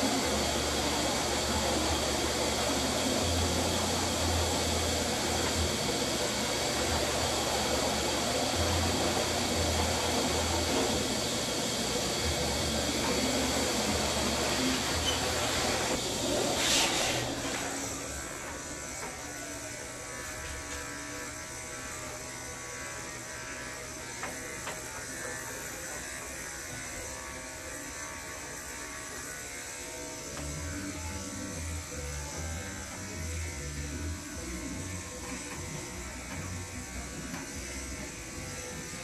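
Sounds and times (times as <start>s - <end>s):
electric dog clippers running: 0.0s - 39.0s.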